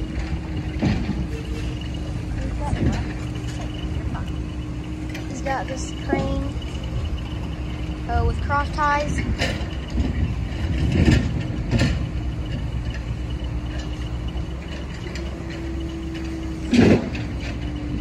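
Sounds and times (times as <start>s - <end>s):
freight cars knocking and clanking: 0.0s - 18.0s
train wheels rumbling on rails: 0.0s - 18.0s.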